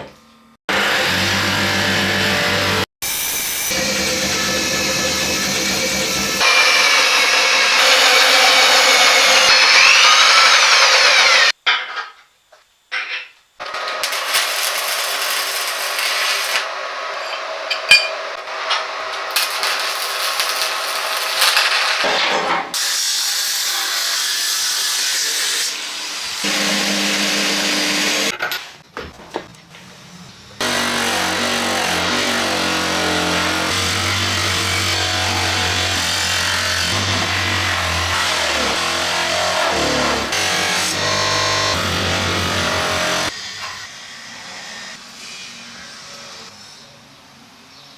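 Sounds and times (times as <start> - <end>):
power tool on metal: 0.7 - 11.6, 13.6 - 28.3, 30.6 - 46.5.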